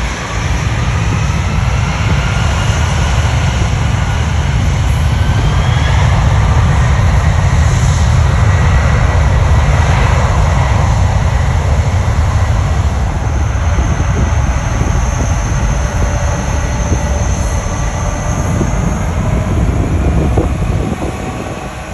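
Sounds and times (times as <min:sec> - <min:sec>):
jet engine roar: 0:00.0 - 0:21.9.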